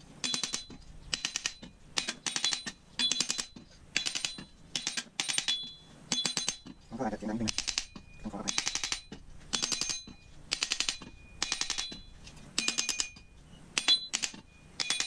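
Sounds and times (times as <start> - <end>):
hammer tapping metal pipe: 0.2 - 6.8, 7.5 - 15.0
metal pipe ringing: 0.2 - 6.8, 7.8 - 15.0.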